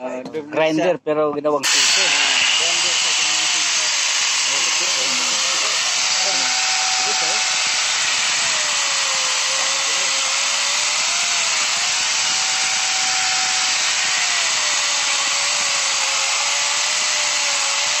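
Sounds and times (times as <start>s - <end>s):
chainsaw cutting log: 1.6s - 18.0s.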